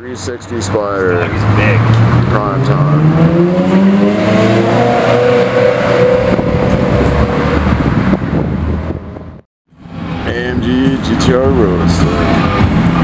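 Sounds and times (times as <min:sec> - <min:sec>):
car engine accelerating: 0:01.0 - 0:13.0.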